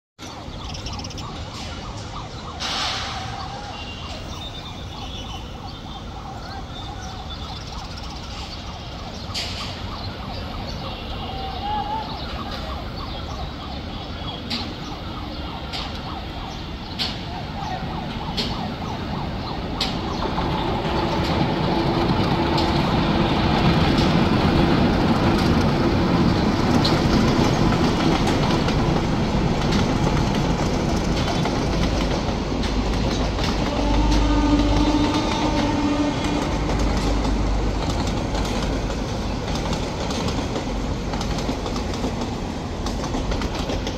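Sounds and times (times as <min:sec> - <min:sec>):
outdoor background noise: 0:00.2 - 0:43.9
passenger train rumbling past: 0:00.2 - 0:43.9.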